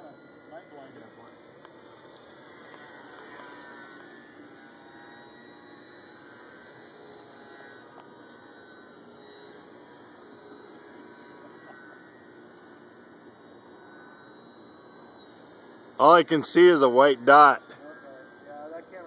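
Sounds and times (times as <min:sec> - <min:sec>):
model airplane motor whine: 0:00.0 - 0:19.0.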